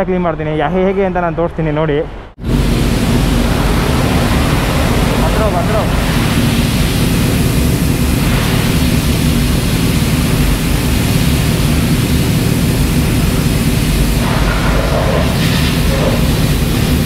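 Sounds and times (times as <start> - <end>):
pressure washer spray hissing: 2.4 - 17.0
washer pump humming: 2.4 - 17.0.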